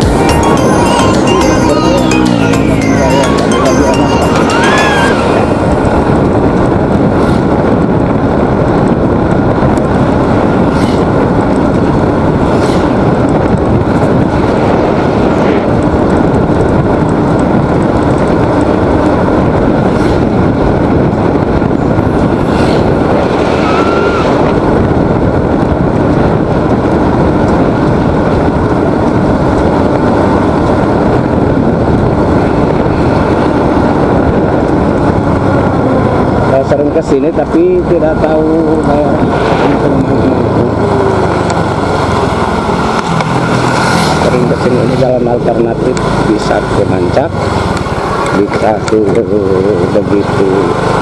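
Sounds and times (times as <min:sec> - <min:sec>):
wind rush over microphone: 0:04.4 - 0:51.0.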